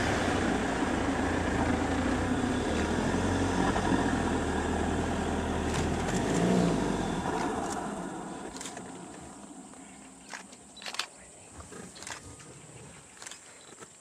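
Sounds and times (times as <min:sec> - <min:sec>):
vehicle engine humming: 0:00.0 - 0:12.5.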